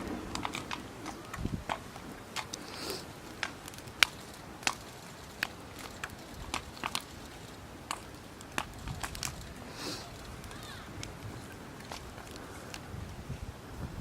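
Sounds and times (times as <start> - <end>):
sharp clicks and snaps: 0.3 - 12.9.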